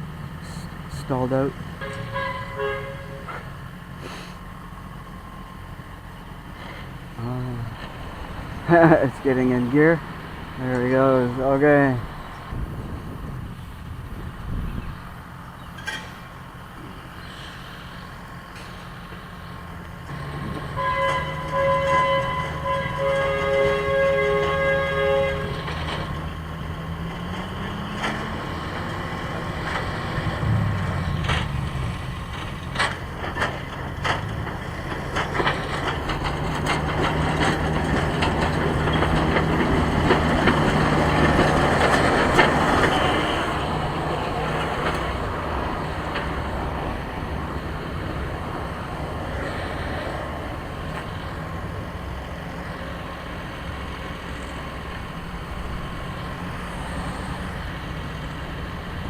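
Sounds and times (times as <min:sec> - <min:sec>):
rail vehicle engine pulling away: 0:00.0 - 0:59.0
wheels cracking on track: 0:00.0 - 0:59.0.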